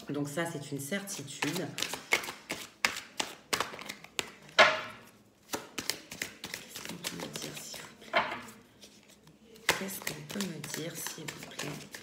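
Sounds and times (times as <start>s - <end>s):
cards being shuffled: 1.4s - 12.0s.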